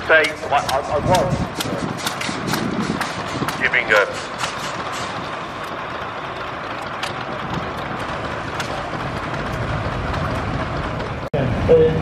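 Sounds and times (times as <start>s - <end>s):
distant engine noise: 0.0s - 12.0s
outdoor background rumble and hiss: 0.0s - 12.0s.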